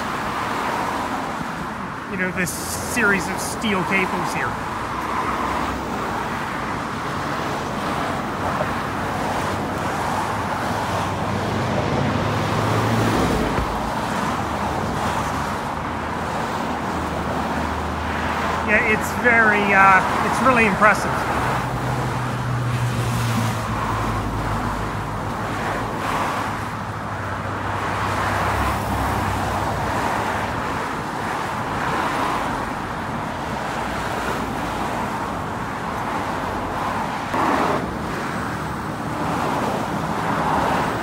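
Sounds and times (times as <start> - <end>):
cars passing with tyres hissing: 0.0 - 41.0.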